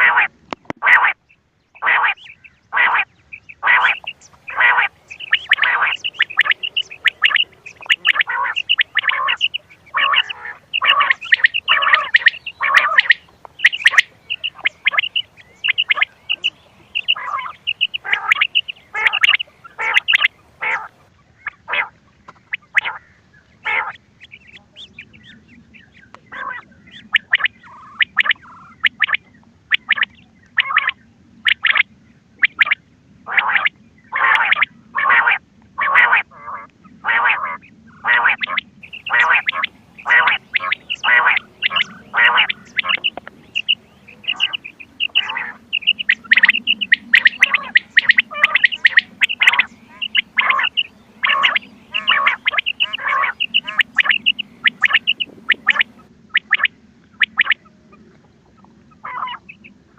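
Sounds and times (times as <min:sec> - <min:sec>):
quail calling: 0:00.0 - 0:59.7.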